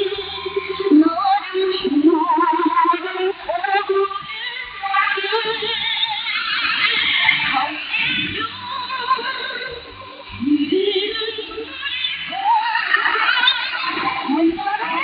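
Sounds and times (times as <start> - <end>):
woman singing over radio music: 0.0 - 15.0.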